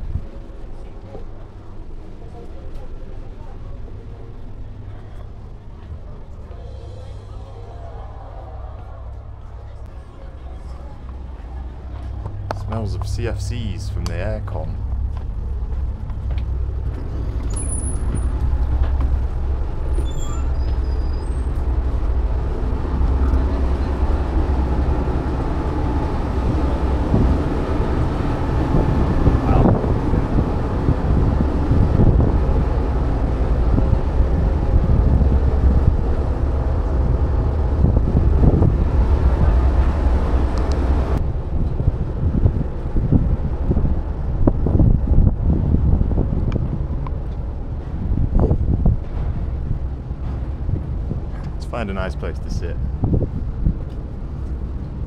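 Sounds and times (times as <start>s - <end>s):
ferry machinery drone: 0.0s - 55.0s.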